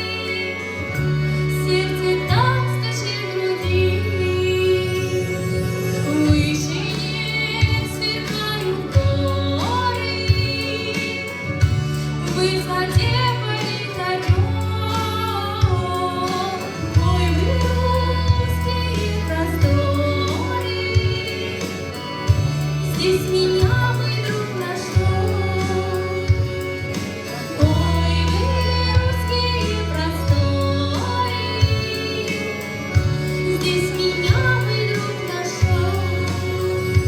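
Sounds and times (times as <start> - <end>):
instrumental accompaniment: 0.0 - 37.0
women singing: 0.0 - 37.0.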